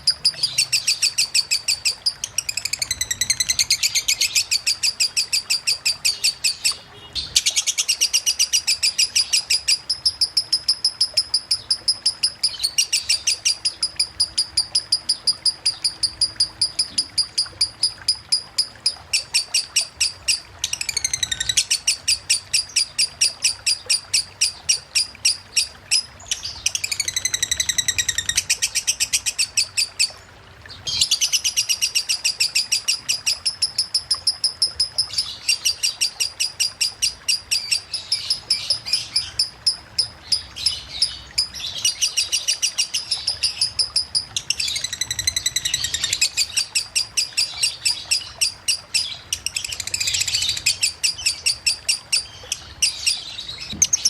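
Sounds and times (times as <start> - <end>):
bird singing rapid shrill chirps: 0.0 - 30.2, 30.8 - 54.0.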